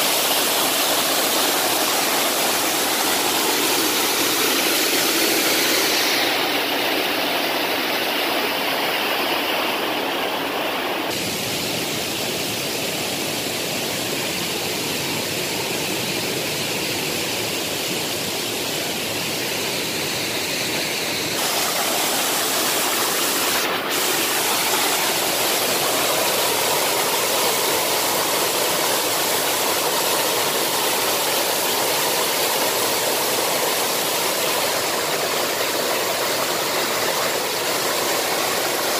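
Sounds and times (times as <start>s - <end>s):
waterfall rushing over rocks: 0.0s - 38.9s.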